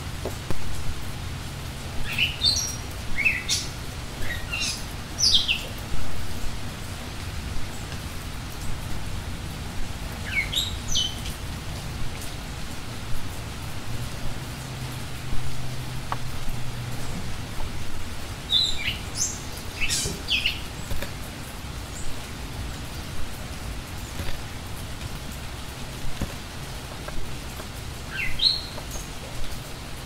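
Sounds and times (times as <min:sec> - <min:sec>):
low background noise: 0:00.0 - 0:30.0
small birds chirping: 0:01.9 - 0:09.1, 0:09.7 - 0:12.8, 0:13.5 - 0:30.0.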